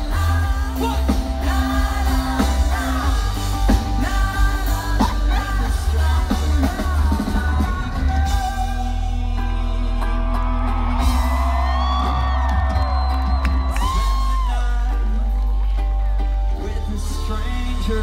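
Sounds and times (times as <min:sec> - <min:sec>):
live rock band playing: 0:00.0 - 0:18.0
singer's voice: 0:00.0 - 0:18.0.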